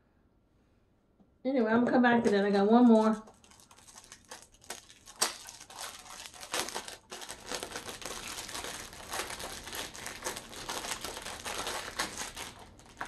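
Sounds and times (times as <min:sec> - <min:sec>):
plastic packaging crinkling: 0:02.4 - 0:13.0.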